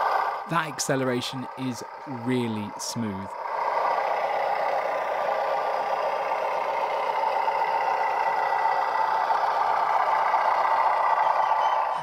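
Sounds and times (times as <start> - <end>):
diesel engine sound from small speaker: 0.0 - 12.0.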